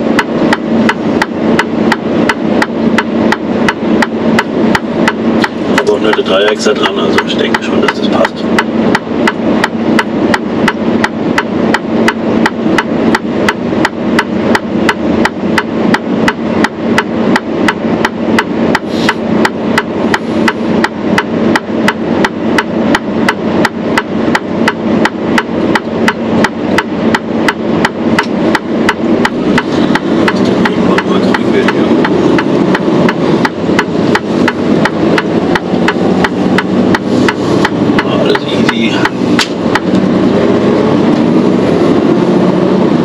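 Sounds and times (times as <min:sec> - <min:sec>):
diesel engine idling: 0:00.0 - 0:43.0
turn signal ticking: 0:00.0 - 0:43.0.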